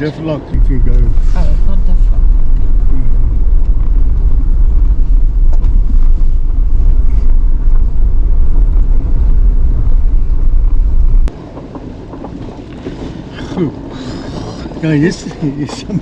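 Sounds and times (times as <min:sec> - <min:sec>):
vehicle rumbling on road: 0:00.0 - 0:16.0.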